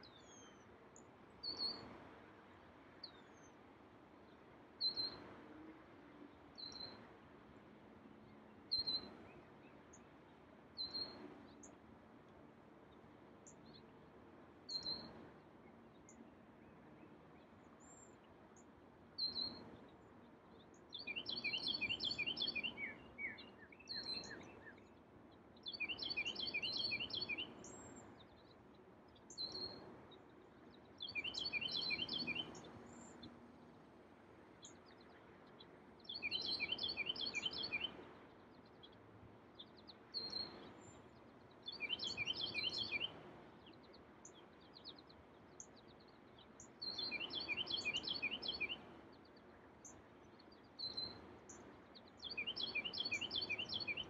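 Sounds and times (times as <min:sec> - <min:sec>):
songbird singing: 0:00.0 - 0:07.4, 0:08.1 - 0:11.8, 0:12.8 - 0:54.0.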